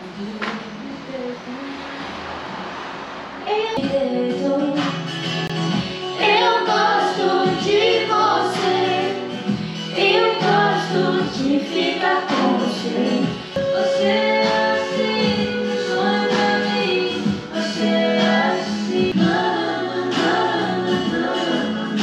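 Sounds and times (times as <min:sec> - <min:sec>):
song with singing voices: 0:00.0 - 0:22.0.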